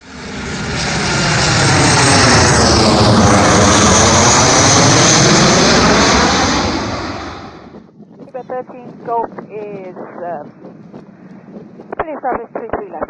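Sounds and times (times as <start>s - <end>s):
airliner engines passing close: 0.0s - 13.0s.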